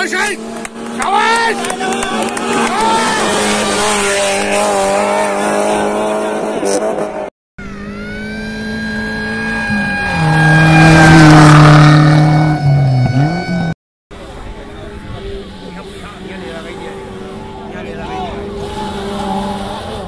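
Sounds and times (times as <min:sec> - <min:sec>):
rally car engines at high revs: 0:00.0 - 0:20.0.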